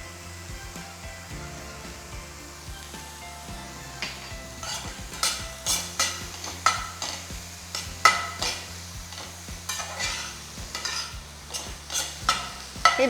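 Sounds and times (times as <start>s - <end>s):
stirring and scraping a pan: 0.0s - 13.0s
vegetables sauteing in a pan: 0.0s - 13.0s.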